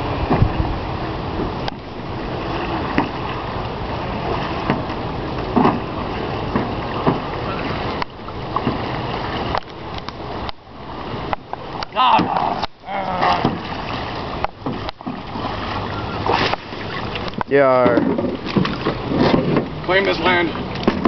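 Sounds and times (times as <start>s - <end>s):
paddle splashing in water: 0.0s - 21.0s.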